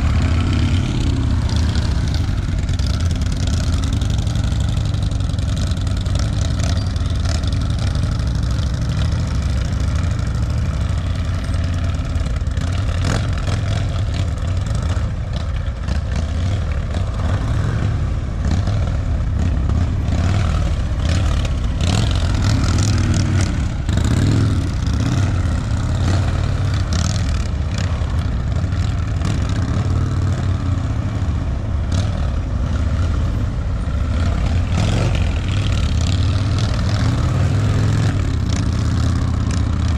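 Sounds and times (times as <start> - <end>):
motorcycle engines rumbling: 0.0 - 39.9.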